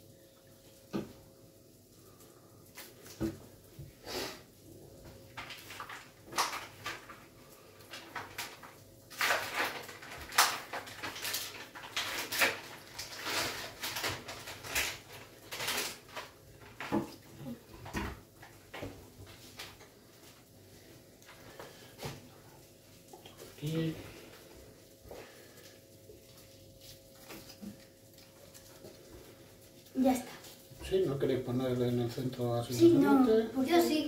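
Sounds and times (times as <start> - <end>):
baking paper rustling: 5.2 - 34.0.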